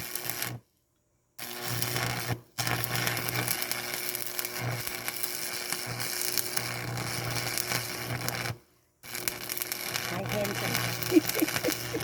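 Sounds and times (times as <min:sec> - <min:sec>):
welding arc crackling: 0:00.0 - 0:00.6, 0:01.4 - 0:12.0.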